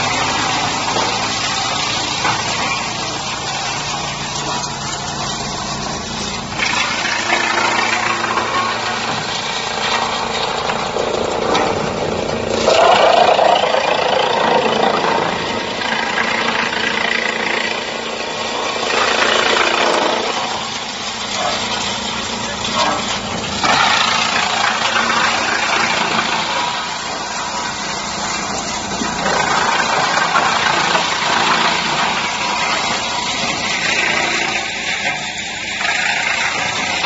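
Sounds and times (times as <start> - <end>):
wood chipper chipping wood: 0.0 - 37.0.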